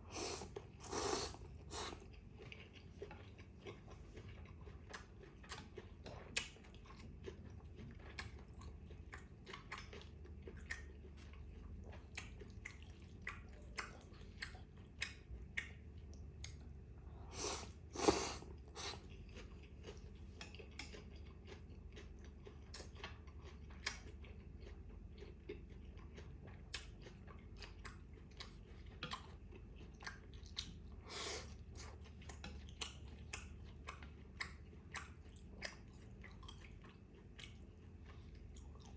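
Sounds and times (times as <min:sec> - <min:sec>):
close chewing and mouth smacks: 0:00.0 - 0:38.9.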